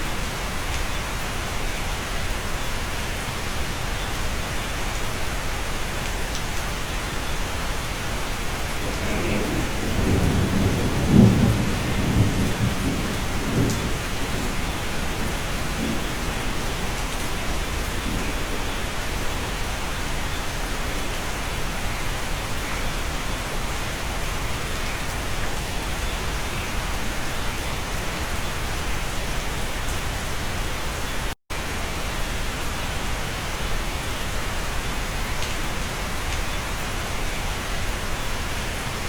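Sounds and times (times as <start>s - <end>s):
heavy rain hiss: 0.0s - 39.0s.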